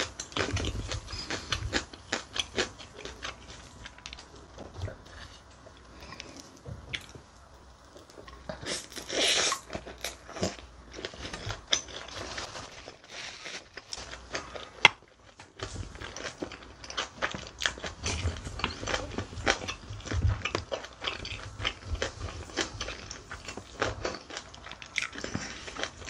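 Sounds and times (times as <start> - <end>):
close chewing with wet clicks: 0.0 - 12.1, 13.8 - 26.0.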